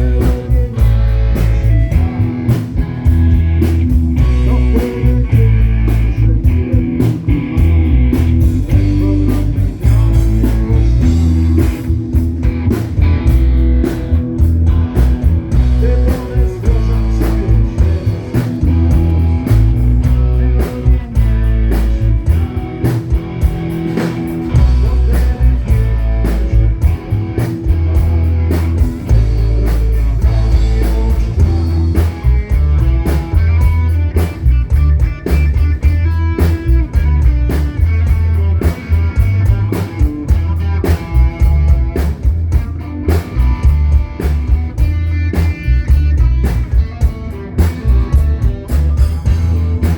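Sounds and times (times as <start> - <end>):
electric guitar: 0.0 - 49.9
live rock band playing: 0.0 - 49.9.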